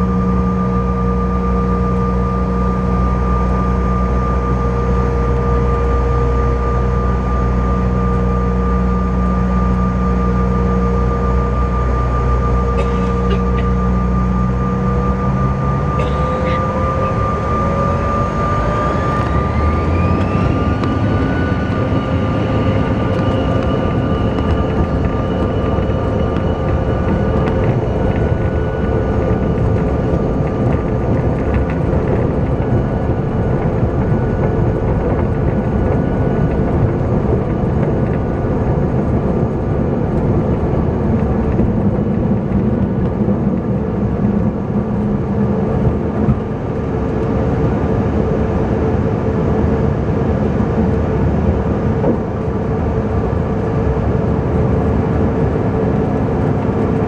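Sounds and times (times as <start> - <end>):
jet cabin rumble: 0.0 - 57.0
jet engines whining: 0.0 - 57.0.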